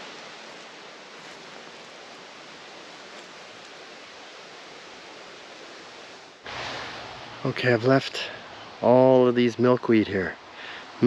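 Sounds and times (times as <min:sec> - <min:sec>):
rustling grass and leaves: 0:00.0 - 0:11.0.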